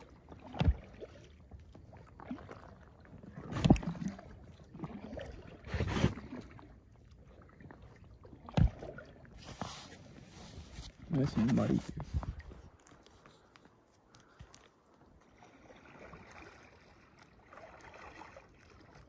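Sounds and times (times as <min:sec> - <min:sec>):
paddle strokes in water: 0:00.0 - 0:19.0.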